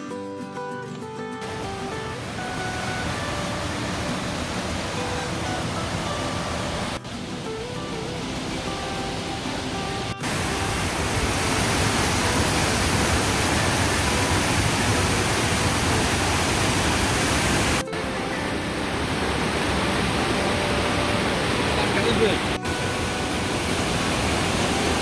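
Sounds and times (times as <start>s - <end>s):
waterfall rushing: 0.8s - 25.0s.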